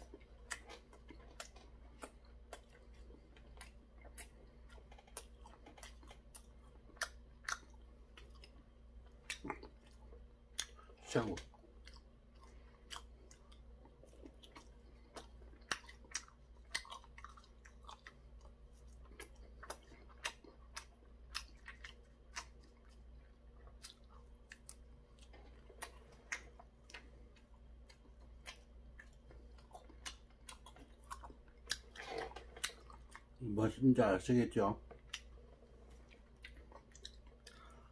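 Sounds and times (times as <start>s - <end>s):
person chewing crunchy fried food: 0.0s - 33.5s, 34.8s - 37.9s.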